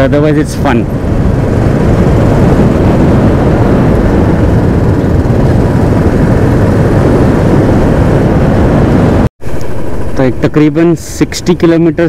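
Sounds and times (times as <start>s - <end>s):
wind rush on microphone: 0.0s - 10.4s.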